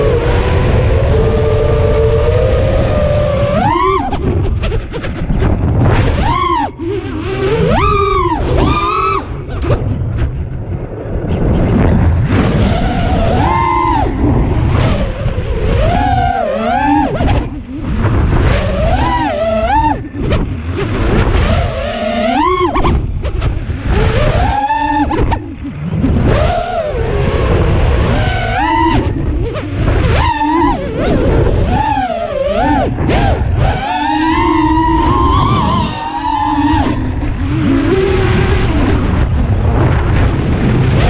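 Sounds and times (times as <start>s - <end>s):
drone motors whining: 0.0s - 41.0s
wind rush on microphone: 0.0s - 41.0s.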